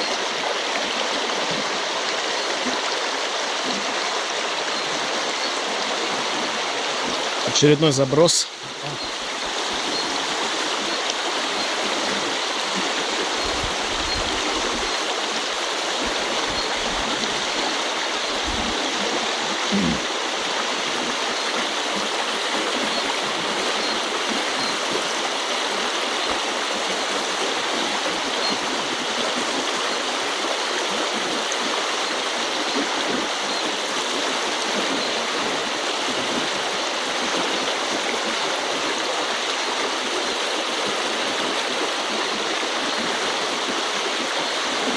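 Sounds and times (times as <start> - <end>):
river rushing over stones: 0.0 - 44.9.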